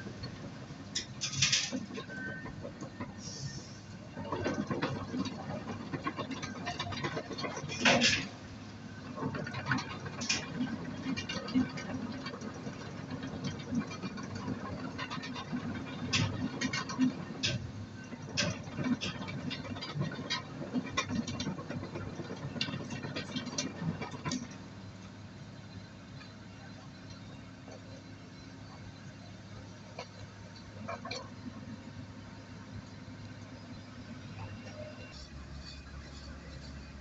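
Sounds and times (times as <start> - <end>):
excavator diesel engine droning: 0.0 - 37.0.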